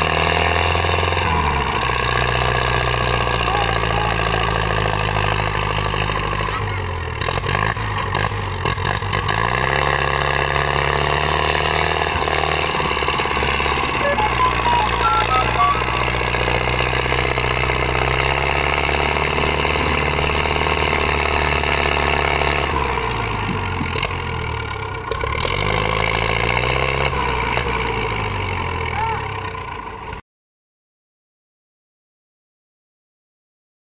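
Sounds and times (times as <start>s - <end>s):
tractor diesel engine running: 0.0s - 30.2s.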